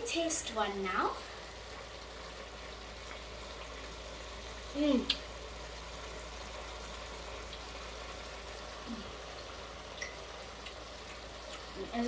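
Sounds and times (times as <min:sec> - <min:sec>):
pot simmering with low sizzle: 0:00.0 - 0:12.0.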